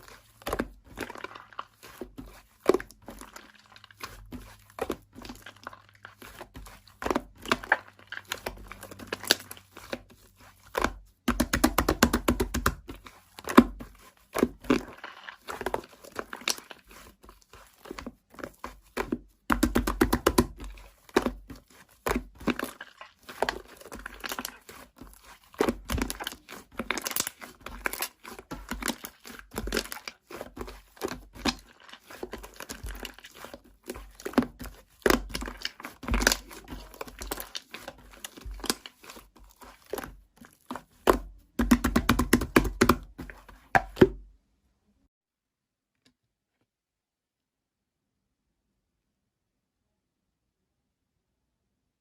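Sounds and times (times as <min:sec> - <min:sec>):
material crinkling and crackling: 0:00.0 - 0:44.2.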